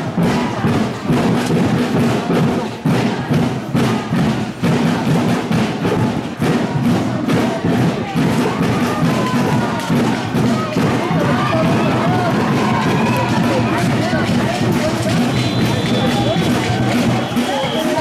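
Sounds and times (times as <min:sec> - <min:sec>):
music with percussion: 0:00.0 - 0:18.0.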